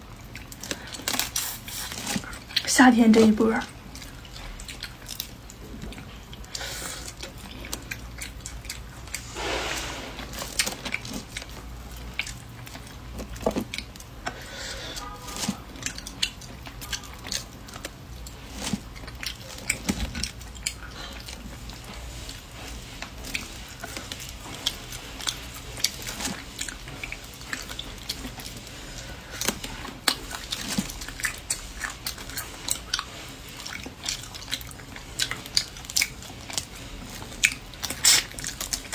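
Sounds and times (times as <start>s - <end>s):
wet chewing sounds: 0.0s - 38.9s.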